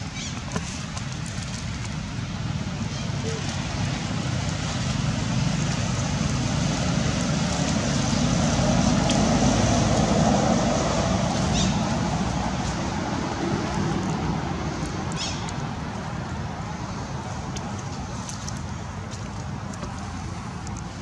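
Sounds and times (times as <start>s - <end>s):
rushing road traffic: 0.0s - 21.0s.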